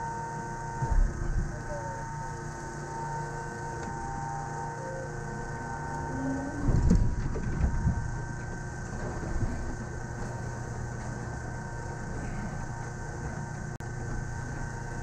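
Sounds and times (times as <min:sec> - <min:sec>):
people mover hum and whine: 0:00.0 - 0:15.0.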